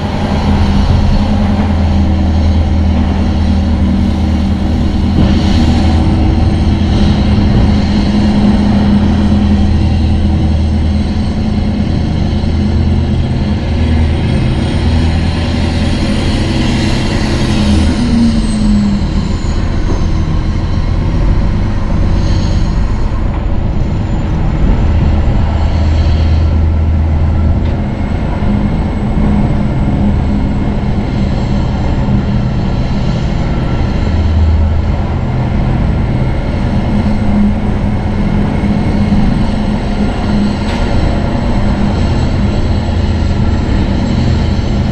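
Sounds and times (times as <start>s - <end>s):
truck diesel engine drone: 0.0s - 44.9s.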